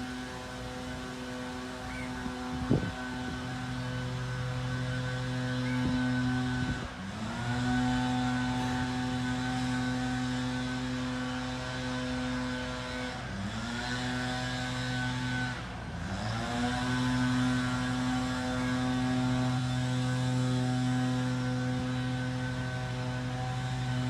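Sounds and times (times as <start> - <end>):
small petrol engine revving: 0.0 - 24.0.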